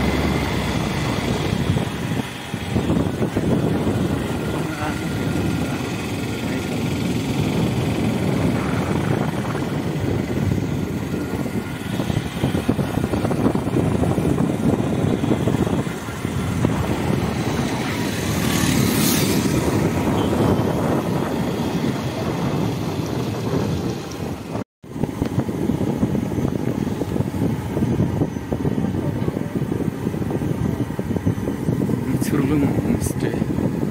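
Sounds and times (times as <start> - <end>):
motorcycle engine running: 0.0 - 33.9
wind rumbling on microphone: 0.0 - 33.9.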